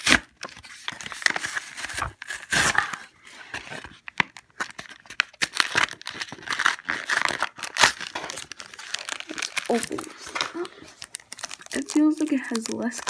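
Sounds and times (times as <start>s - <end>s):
plastic wrapper tearing and crinkling: 0.0s - 13.0s.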